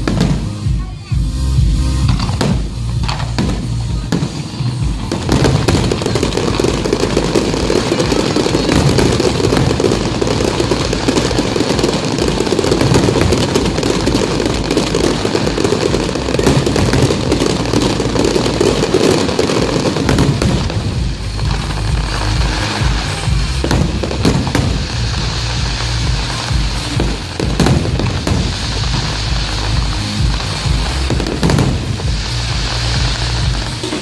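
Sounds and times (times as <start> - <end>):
fireworks crackling and banging: 0.0 - 34.0.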